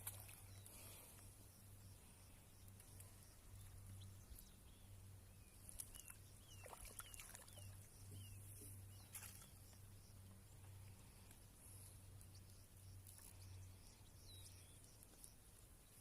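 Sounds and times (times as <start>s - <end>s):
faint bird chirps: 0.0s - 16.0s
steady low hum: 0.0s - 16.0s.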